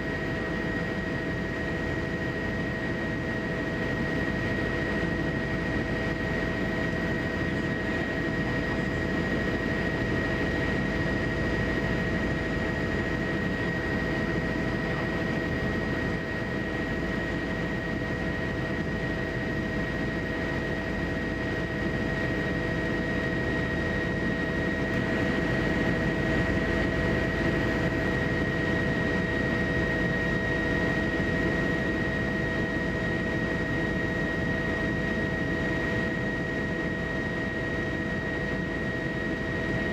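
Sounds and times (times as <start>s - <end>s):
aircraft engine rumble and whine: 0.0s - 39.9s.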